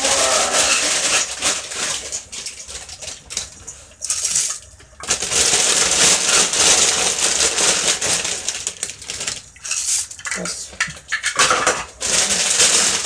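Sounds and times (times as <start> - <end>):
dry noodles rattling into pot: 0.0 - 13.0.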